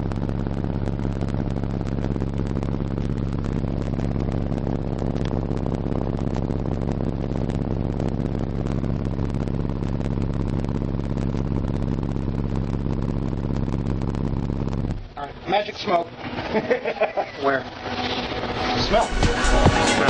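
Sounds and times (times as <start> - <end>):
fast rattling buzz: 0.0 - 20.0
subwoofer bass test tone: 0.0 - 20.0.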